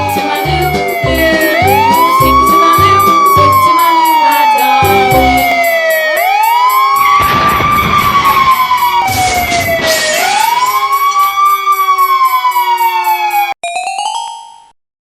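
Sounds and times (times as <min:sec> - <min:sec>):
wailing siren: 0:00.0 - 0:13.6.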